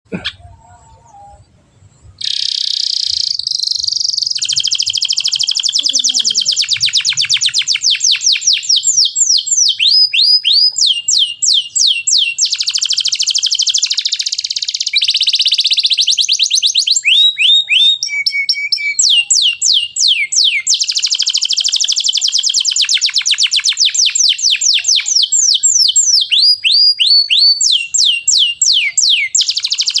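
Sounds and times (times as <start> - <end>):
canary singing: 0.1 - 30.0.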